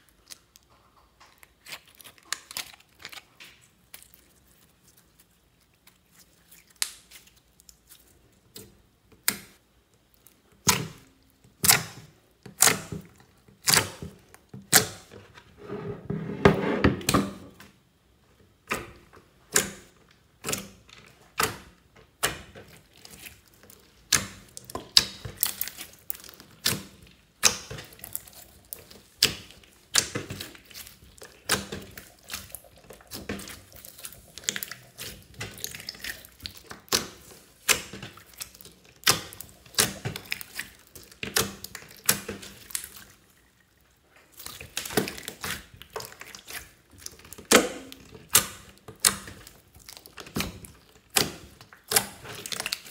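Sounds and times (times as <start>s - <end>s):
slime squelching: 0.0s - 15.4s, 18.5s - 52.9s.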